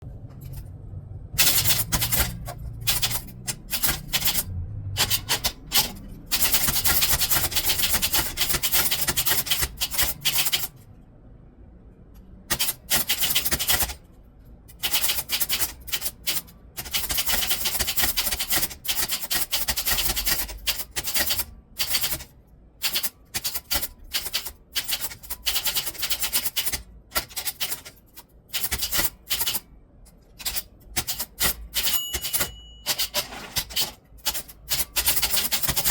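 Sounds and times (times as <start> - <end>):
typewriter keys clacking: 1.4 - 10.7, 12.5 - 14.0, 14.7 - 29.6, 30.3 - 35.9.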